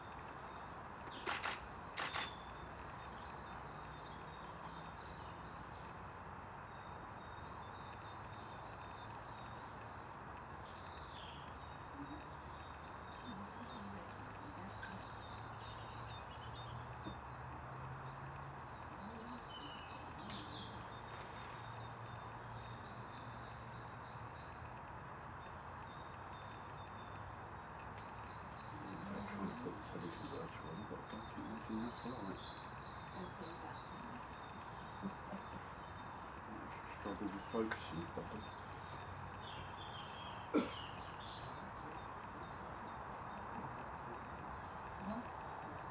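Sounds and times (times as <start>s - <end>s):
birds chirping faintly: 0.0s - 45.9s.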